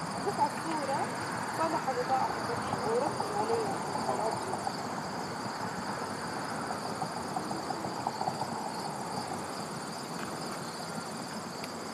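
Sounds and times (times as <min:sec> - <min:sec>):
background hiss: 0:00.0 - 0:11.9
crickets trilling: 0:00.0 - 0:11.9.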